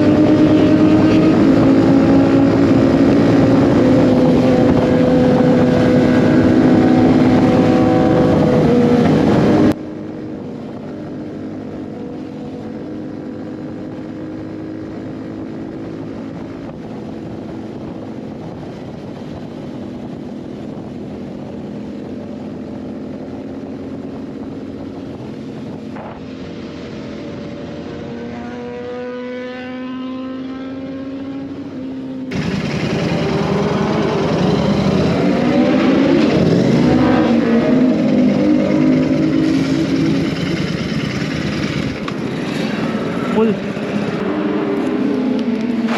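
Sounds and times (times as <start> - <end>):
motorcycle engine at speed: 0.0 - 45.9.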